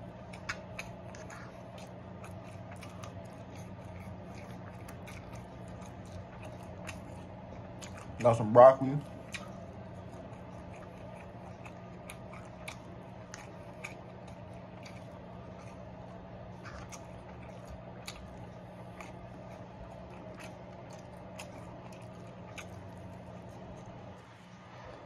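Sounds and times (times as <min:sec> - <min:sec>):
wet chewing and mouth clicks: 0:00.0 - 0:24.4
steady low hum: 0:00.0 - 0:25.0.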